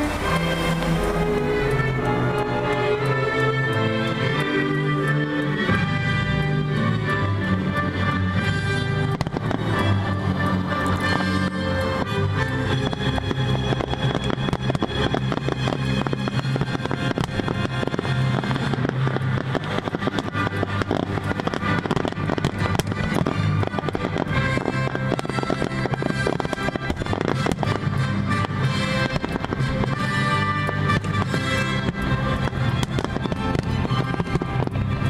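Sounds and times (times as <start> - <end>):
fireworks bursting and crackling: 0.0 - 35.0
steady music: 0.0 - 35.0.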